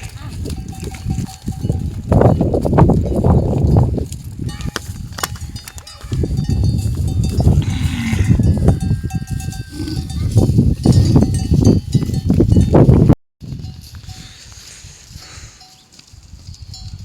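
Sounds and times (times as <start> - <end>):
livestock bells clanking: 0.0 - 14.4, 15.4 - 17.0
wind rumble on microphone: 0.0 - 17.0.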